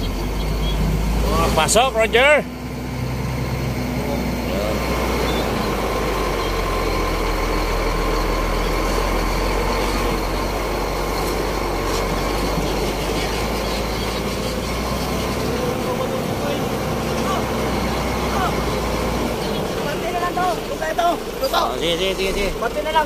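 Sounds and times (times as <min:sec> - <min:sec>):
road and chassis noise: 0:00.0 - 0:23.0
truck diesel engine running: 0:00.0 - 0:23.0.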